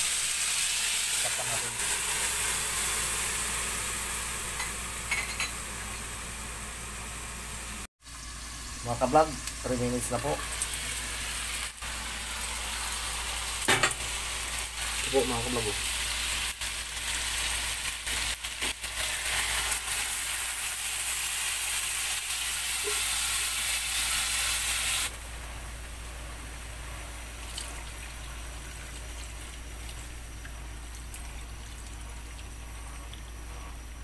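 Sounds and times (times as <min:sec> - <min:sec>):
food sizzling in frying pan: 0:00.0 - 0:33.9.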